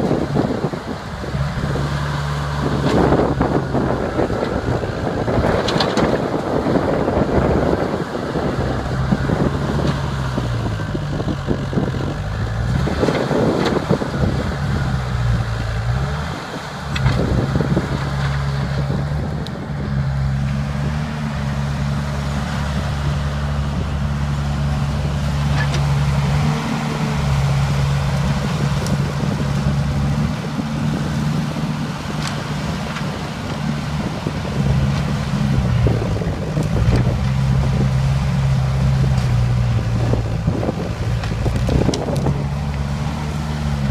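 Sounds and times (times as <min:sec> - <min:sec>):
diesel engine working under load: 0:00.0 - 0:43.9.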